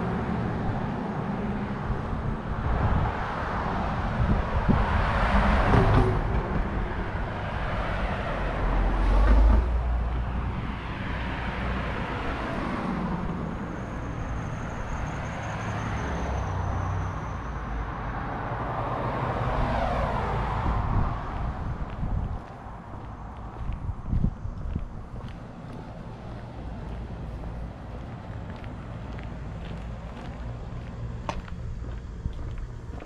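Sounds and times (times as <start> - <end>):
cars passing: 0.0 - 33.0
steady traffic noise: 0.0 - 33.0.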